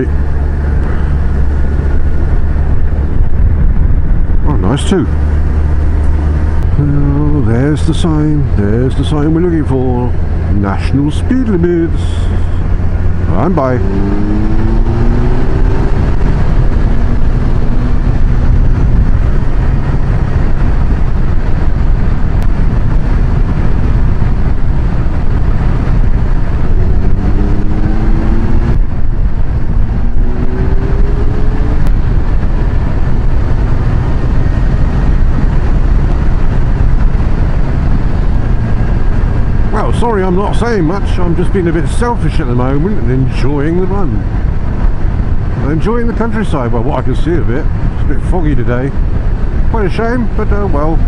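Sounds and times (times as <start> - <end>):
motorcycle engine accelerating: 0.0 - 51.0
wind and road noise: 0.0 - 51.0.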